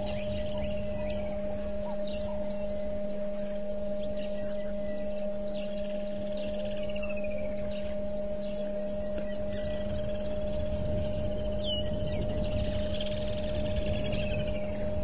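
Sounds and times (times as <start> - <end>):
faint high chirps: 0.0 - 15.0
low rumble: 0.0 - 15.0
steady two-tone hum: 0.0 - 15.0.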